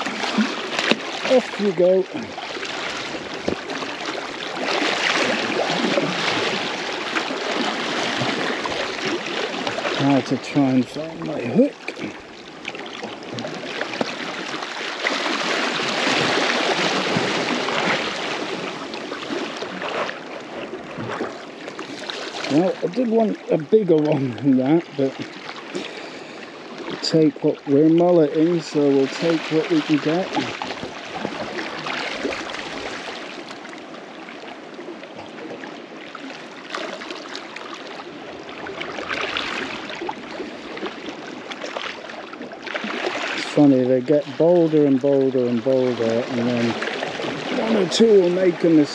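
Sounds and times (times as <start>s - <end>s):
sea water washing over rocks: 0.0s - 48.9s.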